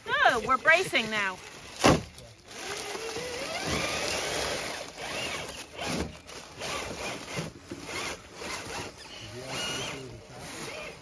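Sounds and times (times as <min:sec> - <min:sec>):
electric motor and gears whining: 0:00.2 - 0:11.0.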